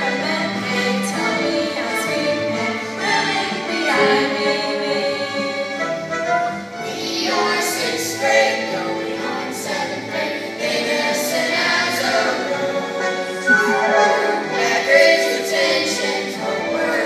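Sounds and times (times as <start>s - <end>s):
children singing into microphones: 0.0s - 5.6s, 6.8s - 17.0s.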